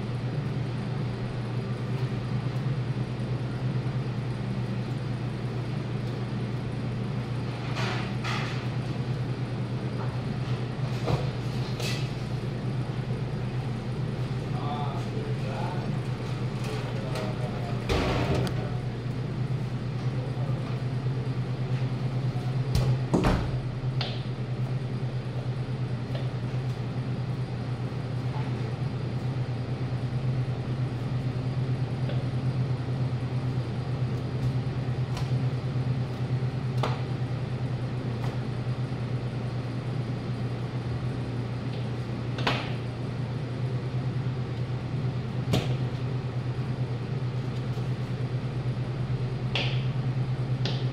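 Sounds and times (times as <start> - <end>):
low machine hum: 0.0 - 50.9.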